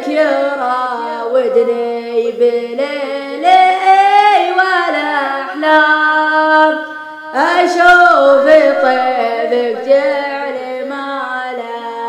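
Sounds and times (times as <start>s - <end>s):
boy singing in layered harmony: 0.0s - 12.0s.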